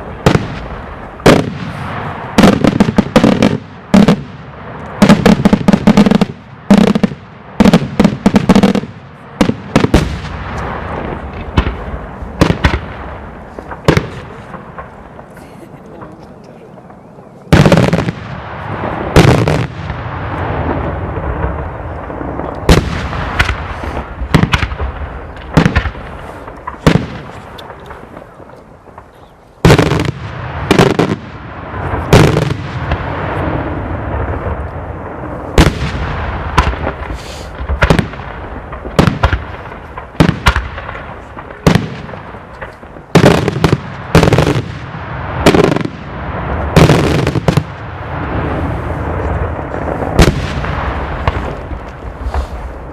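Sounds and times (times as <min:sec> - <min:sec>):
fireworks rumble and crackle: 0:00.0 - 0:52.9.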